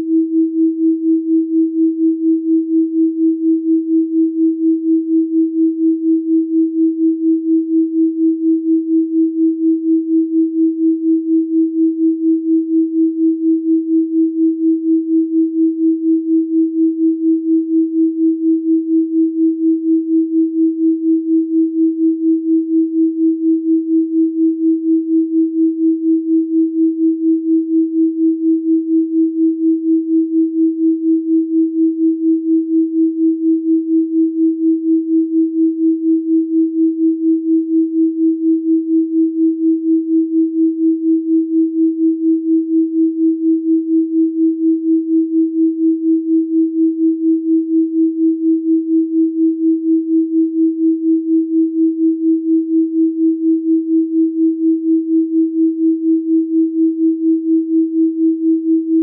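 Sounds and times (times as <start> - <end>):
pulsing sine tone: 0.0 - 59.0.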